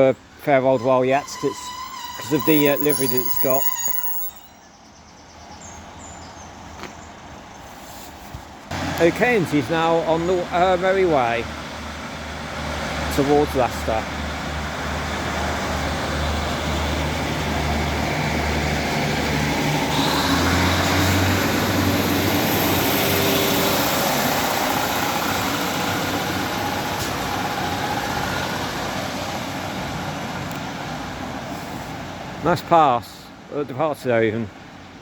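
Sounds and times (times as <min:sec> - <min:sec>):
diesel train pulling away: 0:00.0 - 0:04.8, 0:08.7 - 0:32.5.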